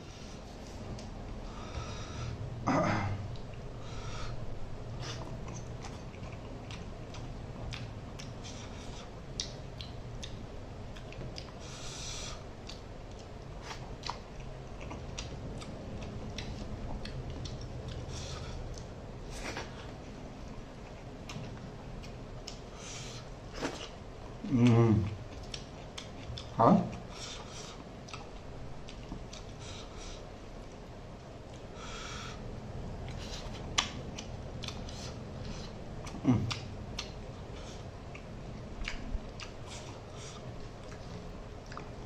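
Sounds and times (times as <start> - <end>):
chewing and mouth noises: 5.0 - 31.8, 33.0 - 42.0.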